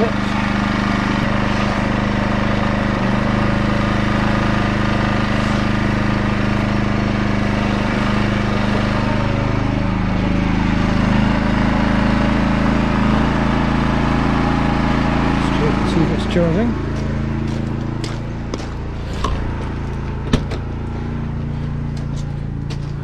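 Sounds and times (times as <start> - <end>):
generator running: 0.0 - 23.0.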